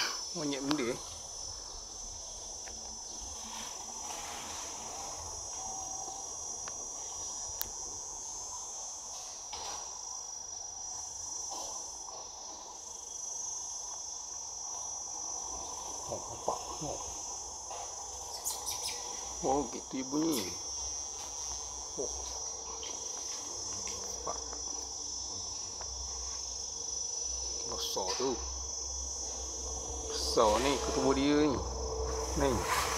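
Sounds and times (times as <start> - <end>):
insects buzzing: 0.0 - 32.9.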